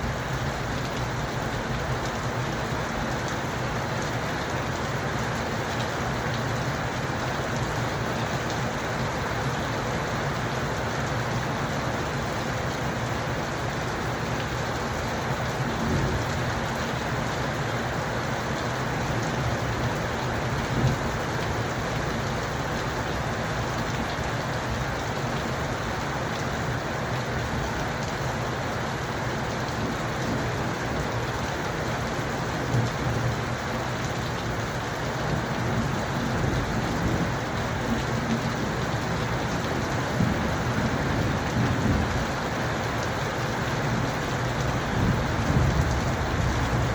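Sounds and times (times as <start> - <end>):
rain spattering on surfaces: 0.0 - 46.9.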